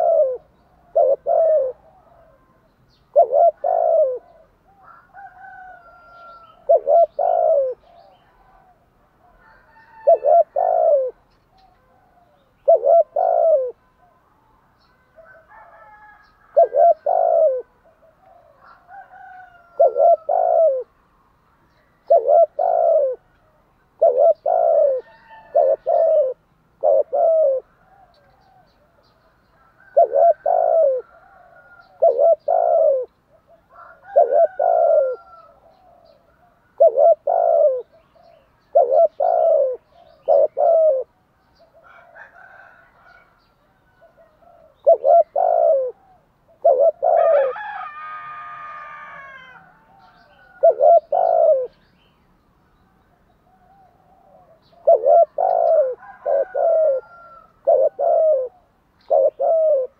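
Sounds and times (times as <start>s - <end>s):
dove cooing: 0.0s - 21.0s, 21.7s - 51.9s, 53.1s - 59.9s.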